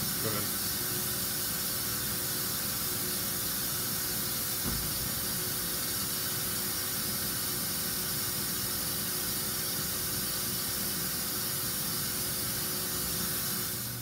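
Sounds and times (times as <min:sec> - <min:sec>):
faint machine hum: 0:00.0 - 0:14.0
milling machine spindle hiss: 0:00.0 - 0:14.0.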